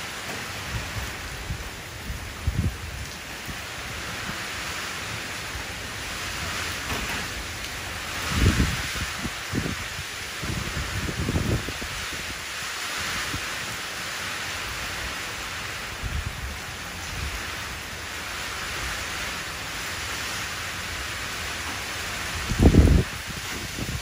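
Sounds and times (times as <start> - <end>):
rain falling into a puddle: 2.4 - 24.0.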